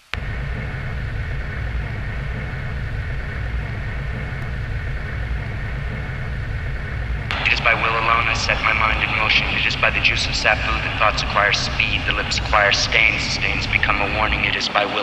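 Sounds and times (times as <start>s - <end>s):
synthesized rumbling drone: 0.0s - 15.0s.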